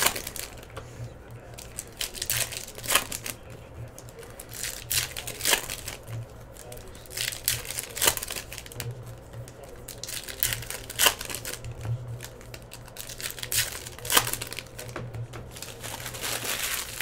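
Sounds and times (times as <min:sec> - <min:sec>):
foil wrappers crinkling and tearing: 0:00.0 - 0:17.0.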